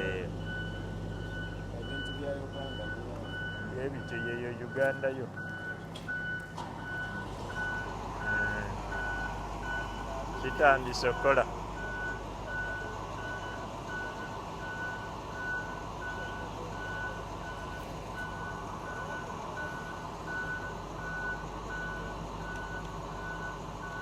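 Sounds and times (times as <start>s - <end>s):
low engine rumble: 0.0s - 24.0s
reversing alarm beeping: 0.0s - 24.0s.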